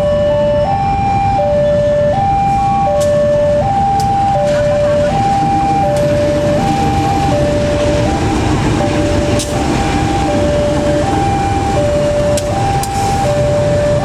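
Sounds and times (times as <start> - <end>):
level crossing alarm: 0.0 - 14.0
passing train rumble: 0.0 - 14.0.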